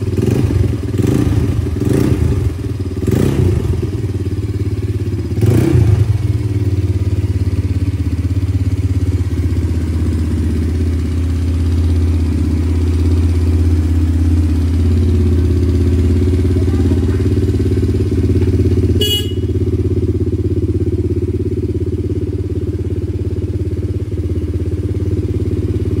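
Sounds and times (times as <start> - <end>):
quad bike engine idling: 0.0 - 26.0.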